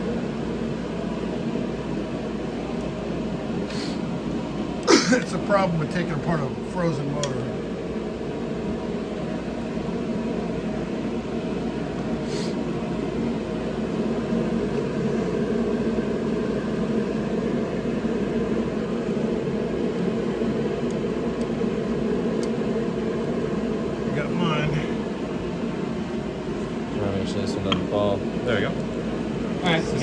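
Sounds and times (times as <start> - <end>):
mechanical hum: 0.0 - 30.0.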